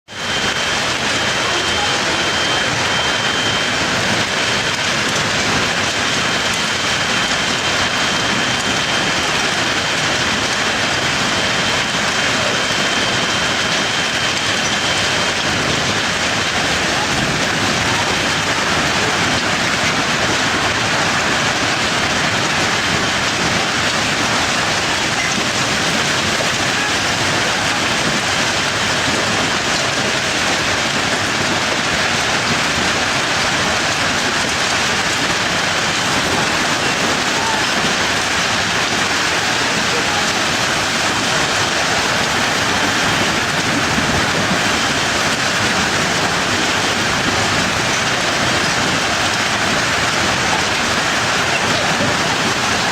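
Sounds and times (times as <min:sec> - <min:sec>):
hail and heavy rain pelting: 0:00.1 - 0:52.9.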